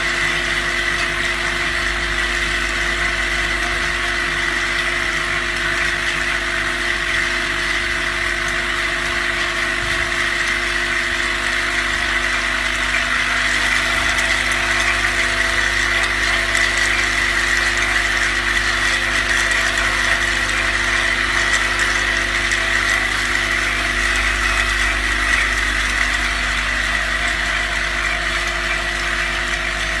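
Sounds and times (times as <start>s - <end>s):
vibration machine buzzing: 0.0s - 30.0s.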